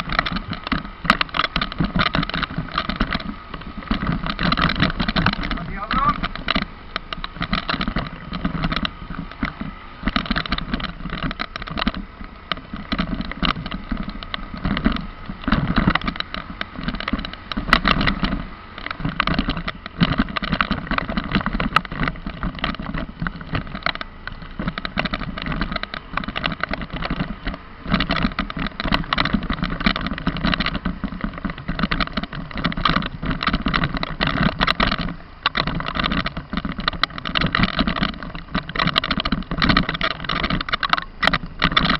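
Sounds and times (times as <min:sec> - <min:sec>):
engine: 0:00.0 - 0:41.9
road noise: 0:00.0 - 0:41.9
vehicle rattling and knocking: 0:00.0 - 0:41.9.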